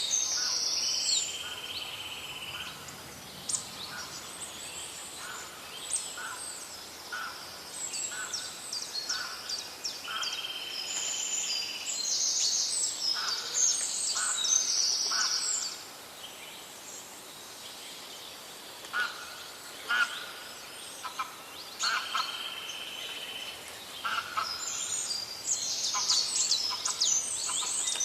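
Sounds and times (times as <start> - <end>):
songbirds chirping and whistling: 0.0 - 28.0.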